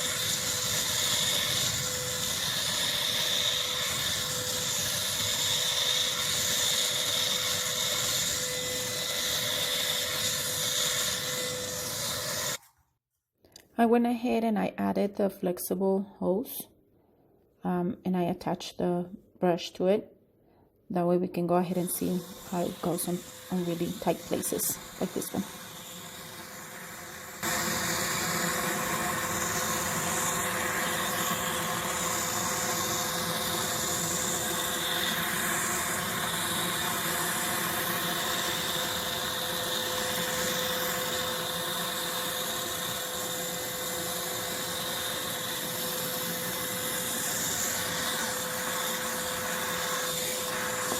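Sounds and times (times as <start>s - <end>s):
vacuum cleaner motor whining: 0.0s - 12.6s, 21.6s - 50.9s.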